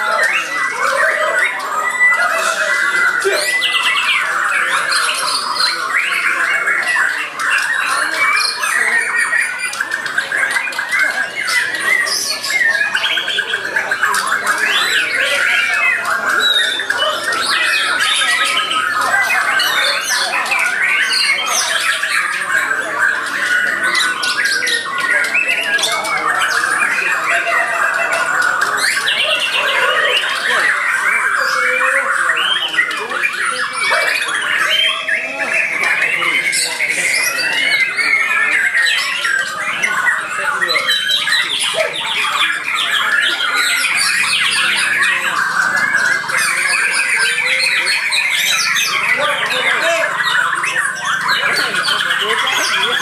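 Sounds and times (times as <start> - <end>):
birds singing: 0.0 - 53.0
songbirds whistling and chirping: 0.0 - 53.0.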